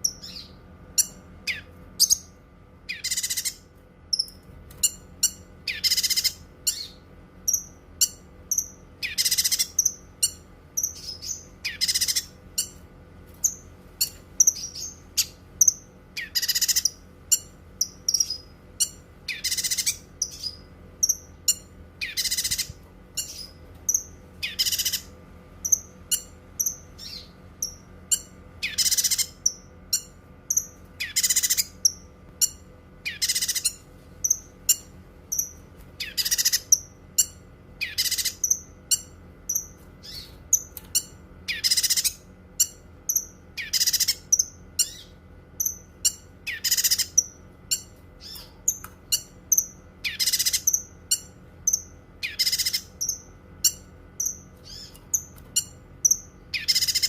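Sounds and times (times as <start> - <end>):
bird singing high chirps: 0.0 - 3.6, 4.2 - 12.8, 13.4 - 57.0.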